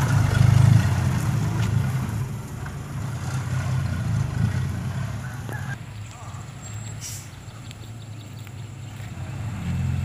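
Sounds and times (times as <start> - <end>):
dump truck diesel engine: 0.0 - 8.0, 8.8 - 10.0.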